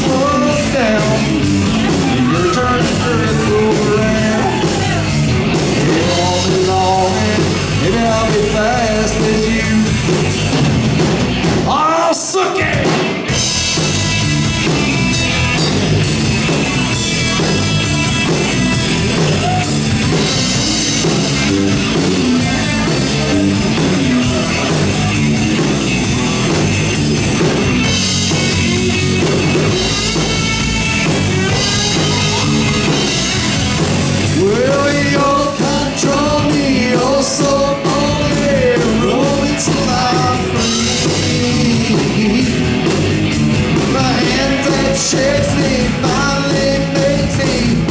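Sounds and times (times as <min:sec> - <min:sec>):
electric guitar: 0:00.0 - 0:11.8, 0:12.5 - 0:47.9
drum kit: 0:00.0 - 0:47.9
electric bass: 0:00.0 - 0:47.9.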